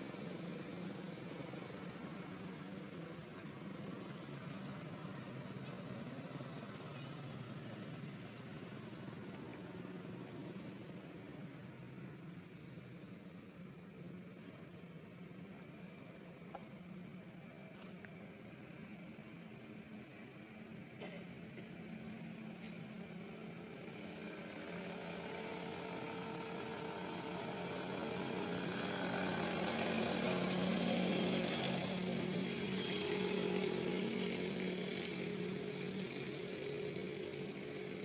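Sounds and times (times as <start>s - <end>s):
small engine droning: 0.0s - 38.0s.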